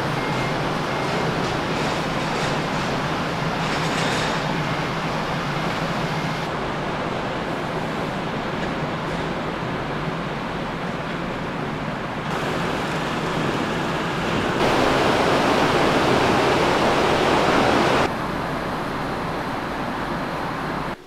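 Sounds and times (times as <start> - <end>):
ship machinery hum: 0.0 - 21.0.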